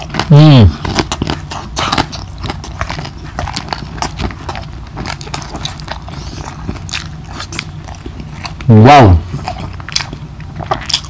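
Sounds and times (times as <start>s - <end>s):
chewing crispy pork: 0.0s - 11.0s.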